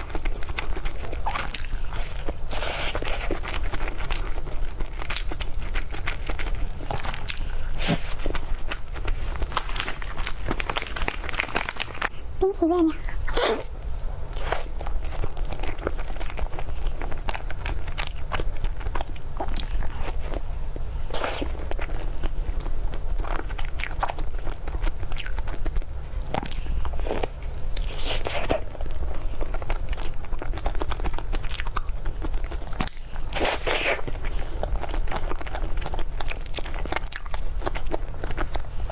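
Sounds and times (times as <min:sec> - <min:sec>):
crunchy chewing: 0:00.0 - 0:12.3, 0:13.0 - 0:38.9
low steady hum: 0:00.0 - 0:38.9.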